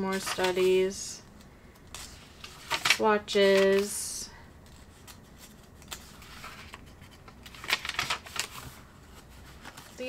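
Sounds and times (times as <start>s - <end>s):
paper pages flicking and rustling: 0.0s - 1.0s, 1.9s - 4.0s, 4.6s - 10.0s.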